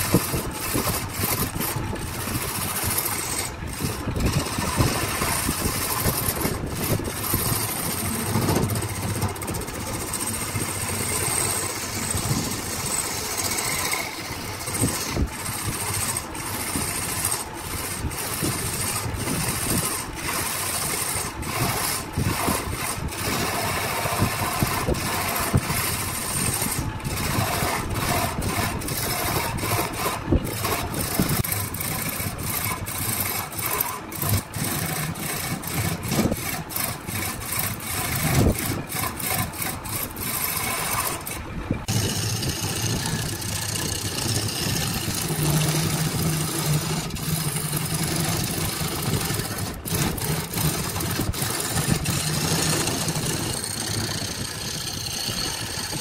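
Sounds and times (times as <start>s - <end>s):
wood cutting noise: 0.0s - 56.0s
woodworking machine motor hum: 0.0s - 56.0s.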